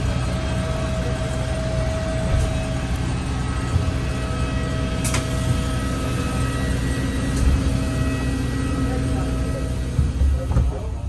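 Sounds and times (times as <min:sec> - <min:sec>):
engine and road rumble: 0:00.0 - 0:11.0
faint steady whine: 0:00.0 - 0:11.0.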